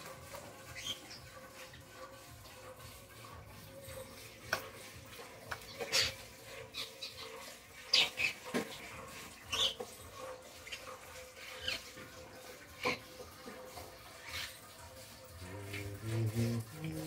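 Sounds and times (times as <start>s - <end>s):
calf sucking and smacking: 0.0s - 17.0s.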